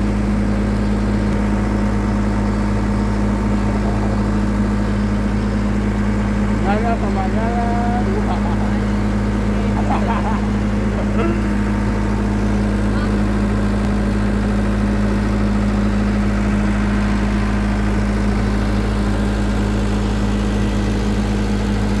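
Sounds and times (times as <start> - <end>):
excavator diesel engine idling: 0.0 - 22.0.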